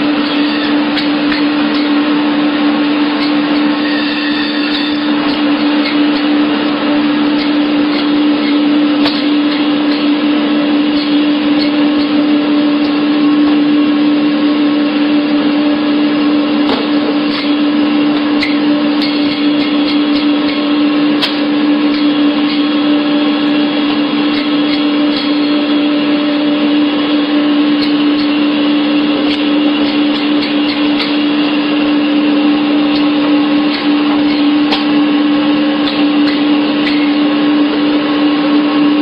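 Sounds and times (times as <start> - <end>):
motor drone humming: 0.0 - 39.0.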